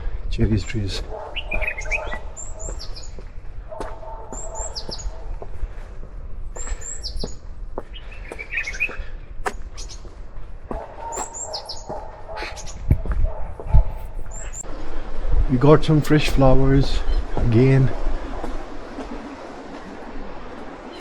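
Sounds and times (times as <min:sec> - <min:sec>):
songbirds chirping: 0:00.0 - 0:14.8, 0:15.5 - 0:21.0
steady low rumble: 0:00.0 - 0:21.0.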